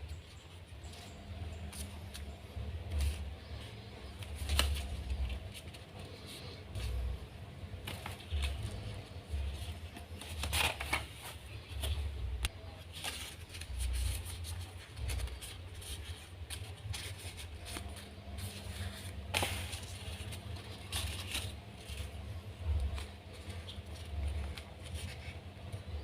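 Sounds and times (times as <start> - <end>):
paper rustling and crinkling: 0.0 - 26.0
paper crackling as creased: 0.2 - 7.2, 7.8 - 12.0, 12.9 - 26.0
steady low rumble: 0.7 - 10.8, 11.4 - 26.0.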